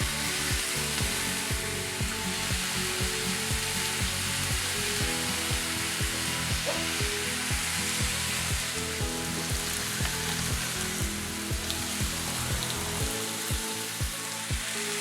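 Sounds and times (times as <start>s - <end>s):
background music with kick drum: 0.0s - 15.0s
meat sizzling on a grill: 0.0s - 15.0s.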